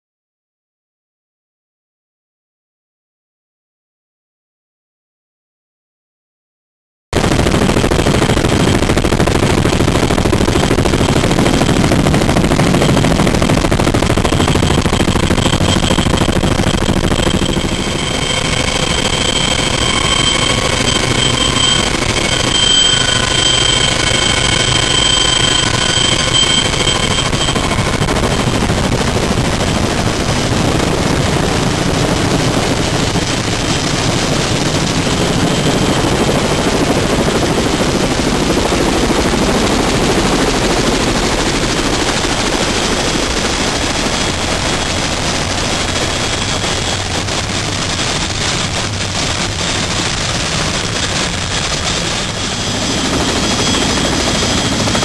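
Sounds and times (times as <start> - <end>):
helicopter rotor beat: 7.2 - 55.0
high turbine whine: 7.2 - 55.0.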